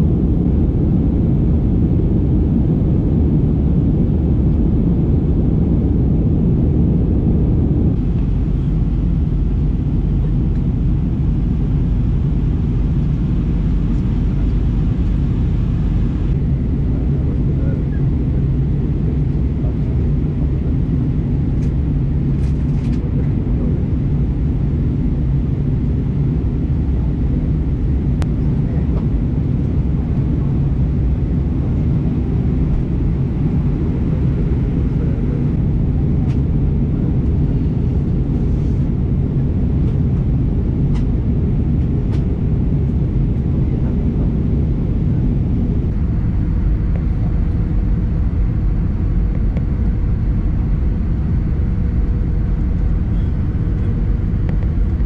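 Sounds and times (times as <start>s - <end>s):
low vehicle rumble: 0.0s - 55.0s.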